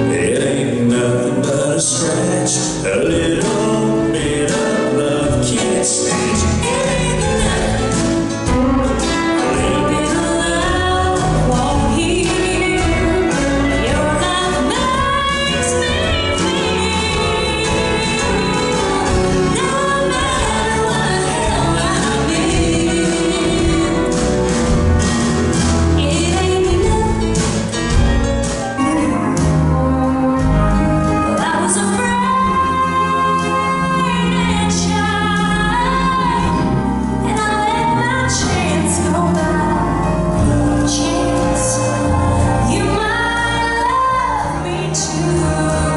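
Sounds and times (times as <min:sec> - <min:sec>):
woman singing: 0:00.0 - 0:24.6, 0:26.0 - 0:27.8, 0:28.6 - 0:45.9
acoustic guitars: 0:00.0 - 0:45.9
drums: 0:00.0 - 0:45.9
piano: 0:00.0 - 0:45.9.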